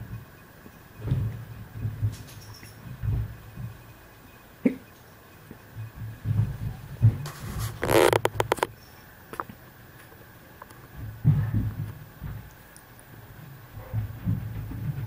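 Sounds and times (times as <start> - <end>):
crackly rustling: 0.0 - 15.0.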